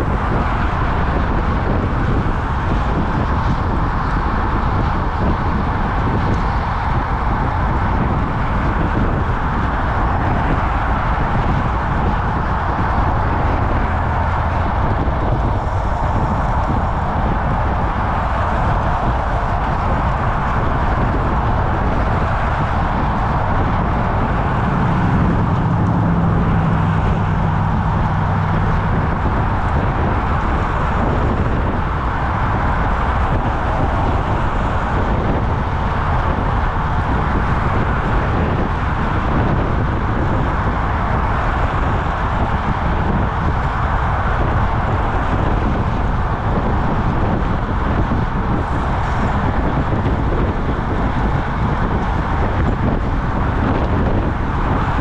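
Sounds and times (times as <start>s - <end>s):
cars passing: 0.0s - 55.0s
low engine hum: 0.0s - 55.0s
wind on microphone: 0.0s - 55.0s.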